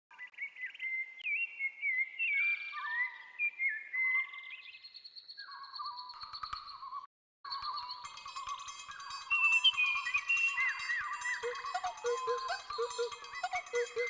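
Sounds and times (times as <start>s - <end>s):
whistled bird-like chirps: 0.1s - 14.0s.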